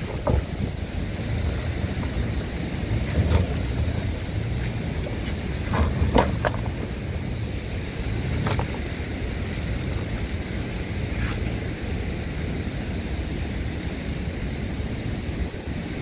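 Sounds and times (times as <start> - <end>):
car engine climbing: 0.0 - 16.0
wind noise on microphone: 0.0 - 16.0.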